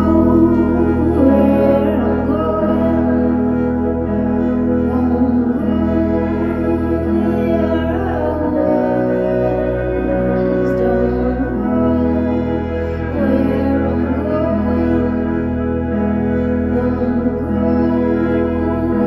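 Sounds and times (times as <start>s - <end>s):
acoustic guitar: 0.0s - 19.0s
low bass: 0.0s - 19.0s
organ-toned keyboard chords: 0.0s - 19.0s.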